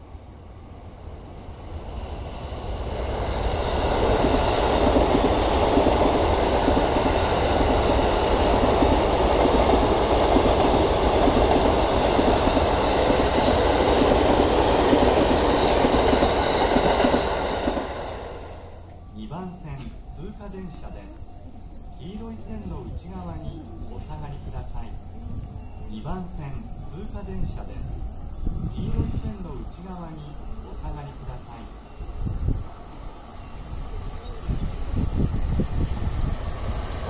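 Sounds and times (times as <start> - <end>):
train wheels running on rails: 0.0 - 37.0.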